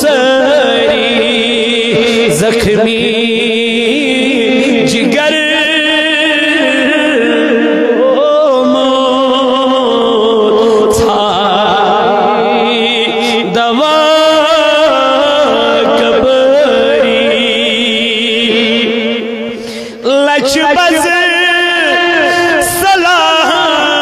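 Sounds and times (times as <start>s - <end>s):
man singing over pa system: 0.0s - 24.0s.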